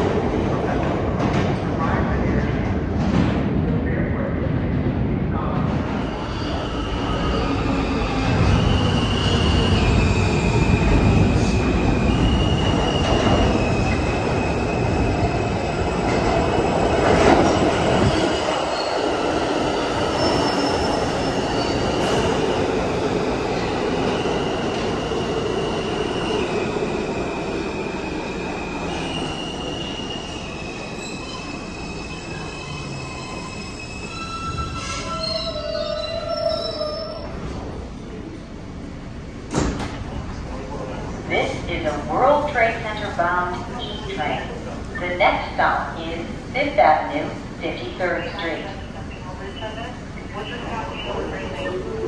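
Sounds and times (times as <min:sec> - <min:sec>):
subway train rumble braking: 0:00.0 - 0:52.0.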